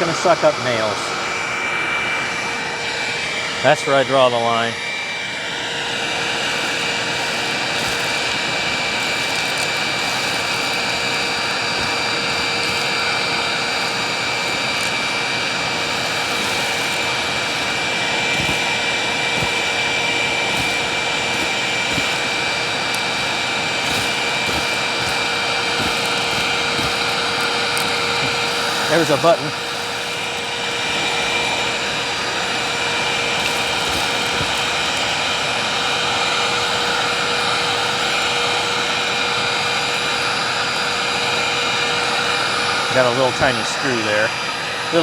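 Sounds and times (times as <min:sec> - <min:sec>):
vacuum cleaner motor whine: 0:00.0 - 0:45.0.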